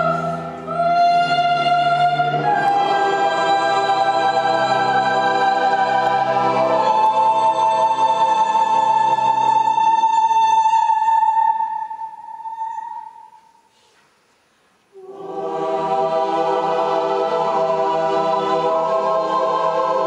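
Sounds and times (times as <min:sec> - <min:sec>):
choir with strings and organ: 0:00.0 - 0:13.7, 0:14.9 - 0:20.0.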